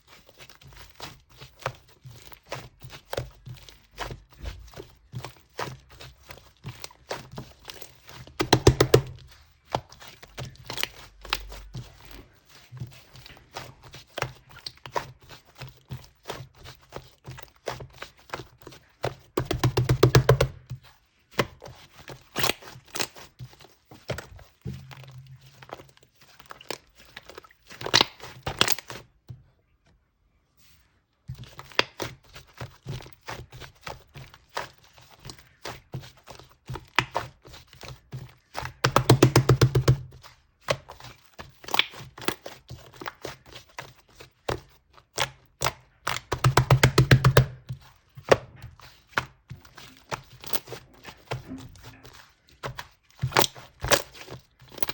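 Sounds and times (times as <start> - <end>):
slime crackling: 0.0 - 29.1, 31.4 - 54.9.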